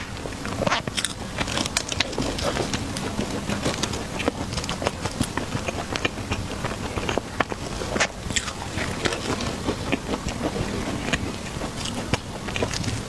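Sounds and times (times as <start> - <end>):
chewing clicks and smacks: 0.0 - 13.0
low background noise: 0.0 - 13.0.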